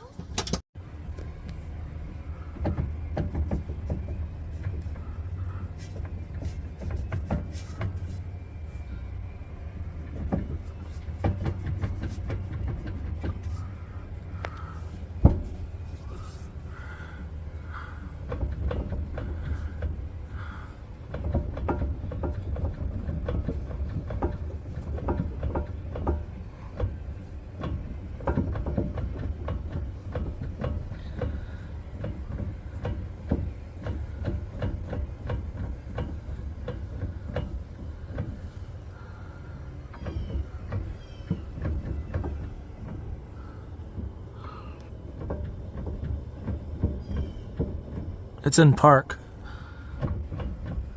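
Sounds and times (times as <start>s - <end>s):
rear differential clunking: 0.0s - 50.9s.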